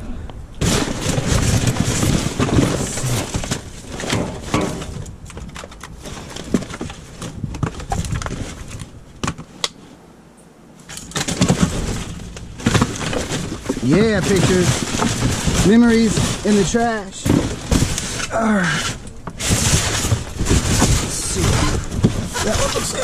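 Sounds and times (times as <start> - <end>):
rummaging knocks and clatter: 0.6 - 9.5, 10.8 - 23.0.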